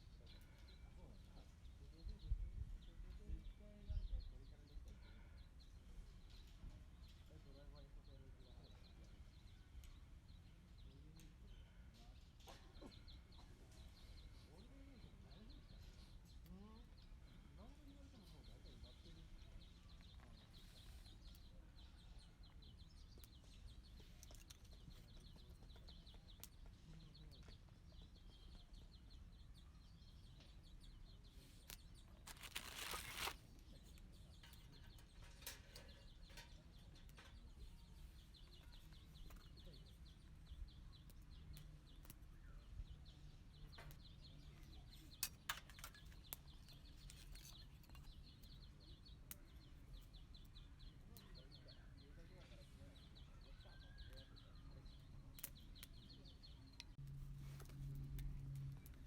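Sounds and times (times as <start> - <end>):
faint bird chirping: 0.0 - 59.0.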